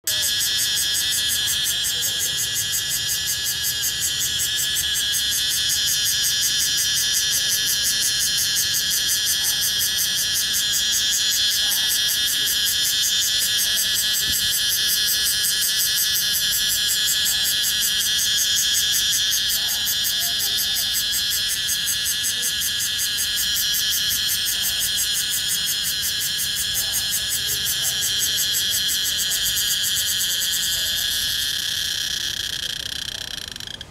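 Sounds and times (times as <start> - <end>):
cicada buzzing drone: 0.0 - 33.9.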